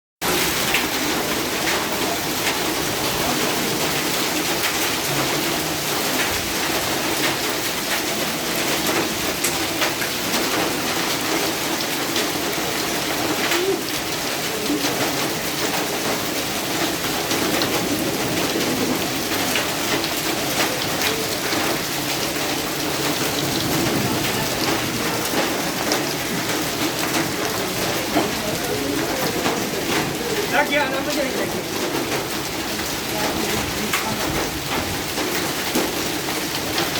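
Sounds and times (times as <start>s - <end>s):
rain drops ticking on hard surfaces: 0.2s - 36.9s.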